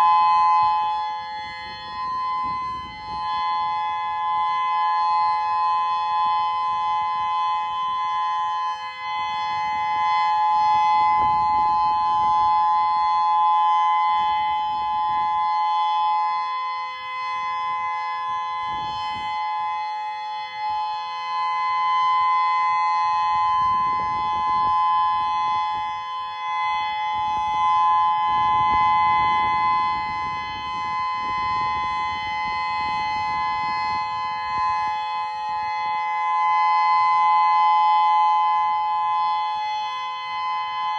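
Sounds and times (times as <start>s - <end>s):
electronic warning siren steady tone: 0.0s - 40.9s.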